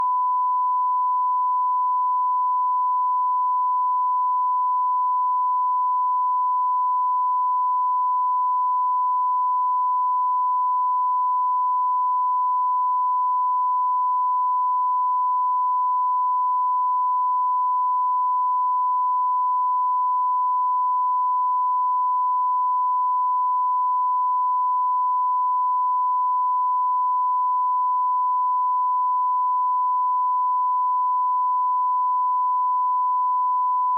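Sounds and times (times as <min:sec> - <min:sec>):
steady sine test tone: 0:00.0 - 0:33.9.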